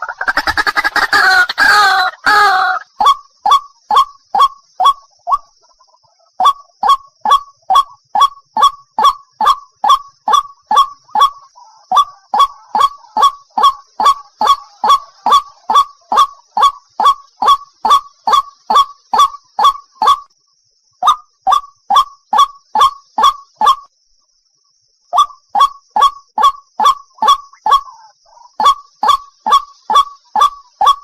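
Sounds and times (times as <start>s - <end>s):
bird croaking call: 0.0s - 20.3s, 25.2s - 31.0s.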